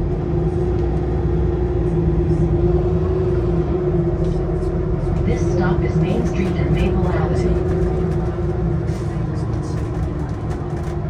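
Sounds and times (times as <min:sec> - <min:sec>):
bus engine rumble and whine: 0:00.0 - 0:11.0.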